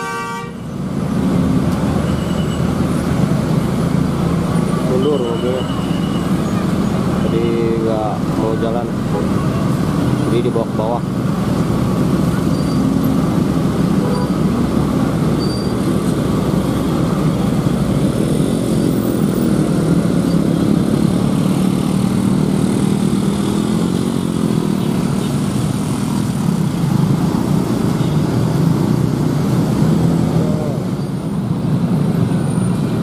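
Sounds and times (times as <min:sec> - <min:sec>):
slow traffic engine noise: 0:00.0 - 0:33.0.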